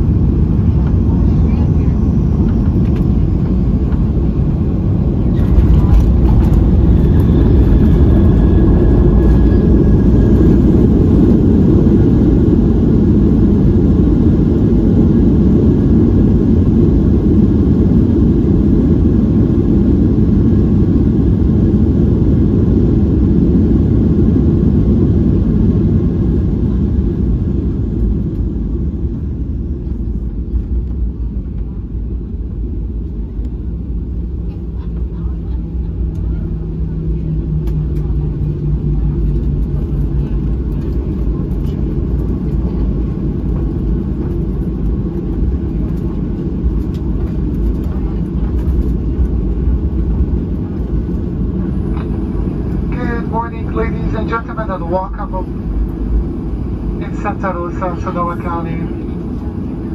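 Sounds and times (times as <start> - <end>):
airliner engine and runway rumble: 0.0 - 59.9.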